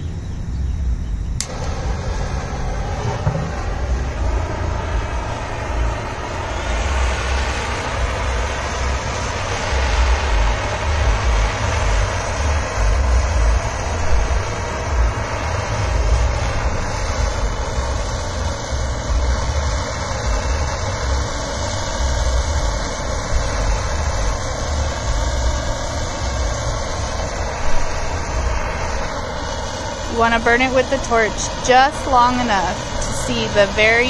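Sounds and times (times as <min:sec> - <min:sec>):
blowtorch flame hissing: 0:01.4 - 0:34.0.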